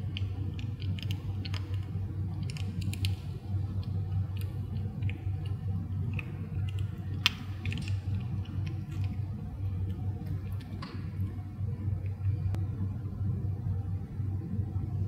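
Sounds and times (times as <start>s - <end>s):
kitten chewing and licking: 0.0s - 12.6s
steady low hum: 0.0s - 15.0s.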